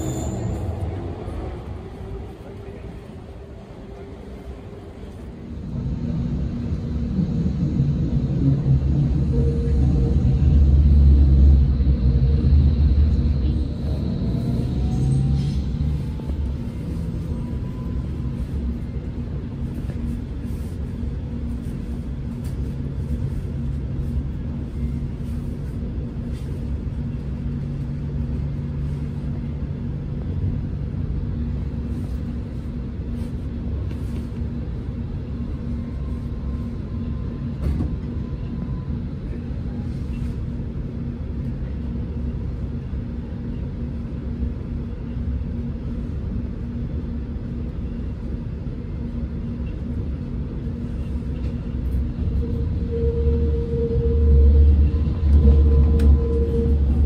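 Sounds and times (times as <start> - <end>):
constant low hum: 0.0 - 57.0
low engine rumble: 0.0 - 57.0.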